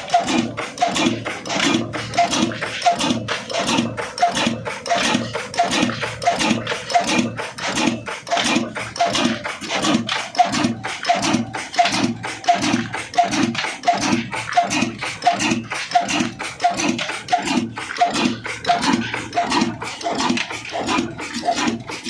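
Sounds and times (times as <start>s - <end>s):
old diesel engine running slowly: 0.0s - 22.0s.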